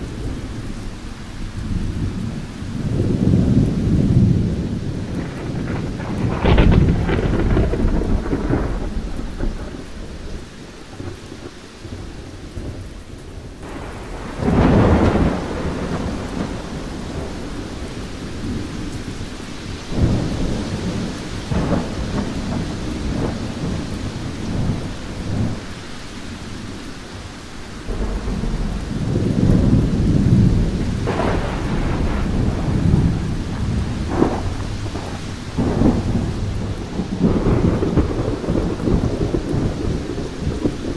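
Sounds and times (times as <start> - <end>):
rolling thunder: 0.0 - 40.9
steady rain: 0.0 - 40.9.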